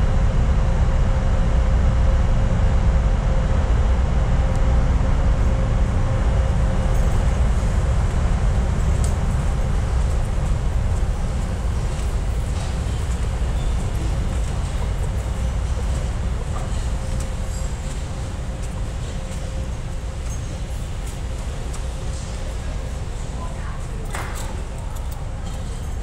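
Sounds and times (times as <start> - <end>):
faint hum: 0.0 - 26.0
subway train rumbling: 0.0 - 26.0.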